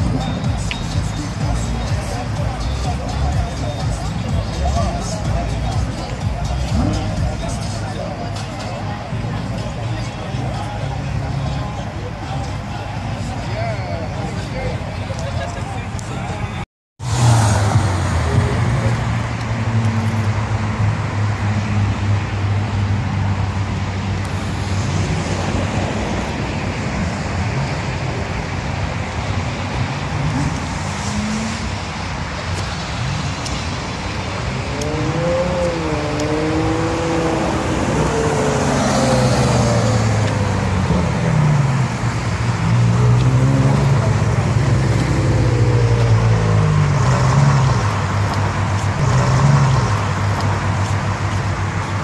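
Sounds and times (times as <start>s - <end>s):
cars driving past: 0.0s - 52.0s
sports car engines revving: 0.0s - 52.0s.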